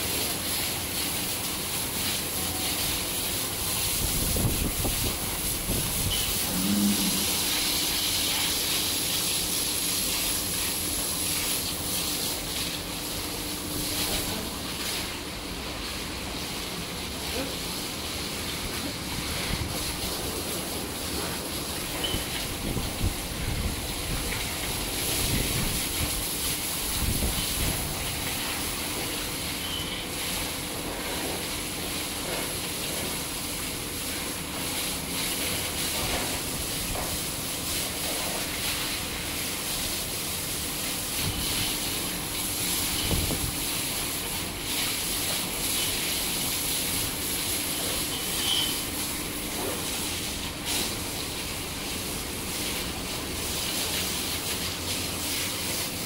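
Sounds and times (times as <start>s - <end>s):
hose water spraying and splashing: 0.0s - 56.0s.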